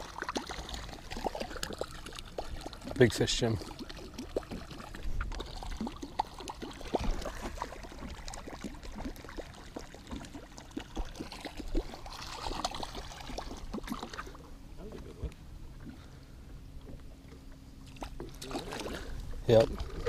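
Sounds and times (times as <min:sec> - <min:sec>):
water sloshing and splashing: 0:00.0 - 0:20.0.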